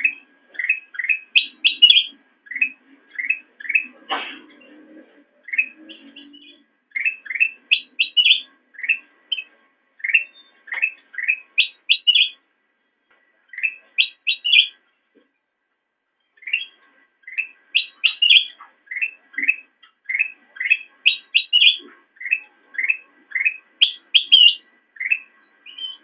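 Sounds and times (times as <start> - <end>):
bulbul chirping and whistling: 0.0 - 4.0, 5.4 - 12.4, 13.5 - 14.8, 16.4 - 26.0.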